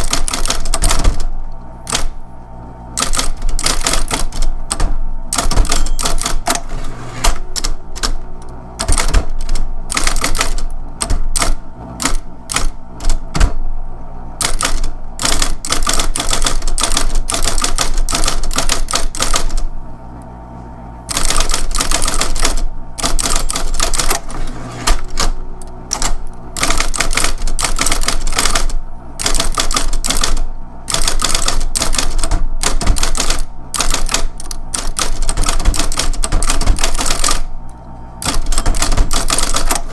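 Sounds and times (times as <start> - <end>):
typewriter key strikes: 0.0 - 1.3, 1.9 - 2.1, 3.0 - 8.2, 8.8 - 13.6, 14.4 - 19.6, 21.1 - 24.3, 24.9 - 37.5, 38.2 - 39.9
typewriter motor hum: 0.0 - 20.4, 21.0 - 39.9.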